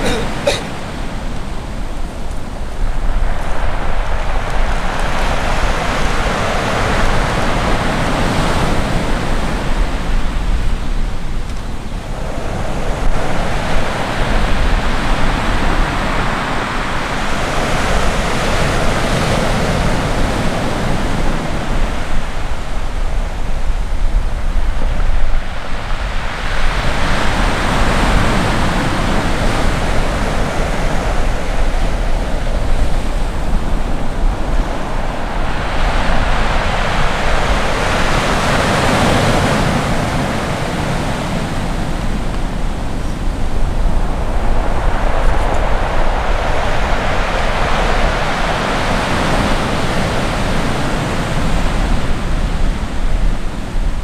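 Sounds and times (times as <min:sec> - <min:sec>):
waves breaking on shore: 0:00.0 - 0:54.0.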